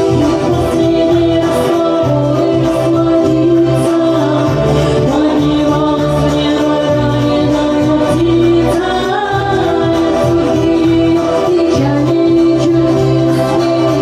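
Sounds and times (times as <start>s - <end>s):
karaoke backing track: 0.0s - 14.0s.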